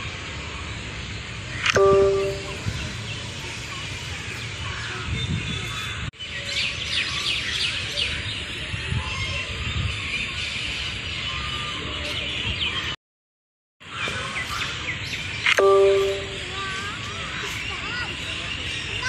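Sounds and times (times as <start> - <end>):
birds chirping: 0.1 - 13.0, 13.8 - 19.0.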